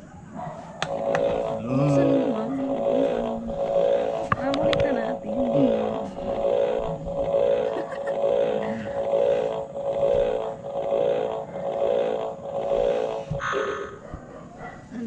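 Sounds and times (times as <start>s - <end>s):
electronic buzzing tone: 0.8s - 14.0s.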